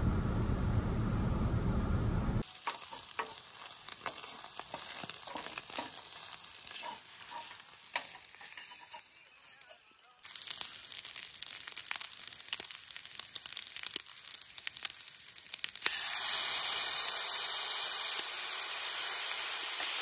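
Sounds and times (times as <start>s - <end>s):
sauce hissing in a hot pan: 2.4s - 9.6s, 10.2s - 20.0s
food sizzling in a frying pan: 2.4s - 20.0s.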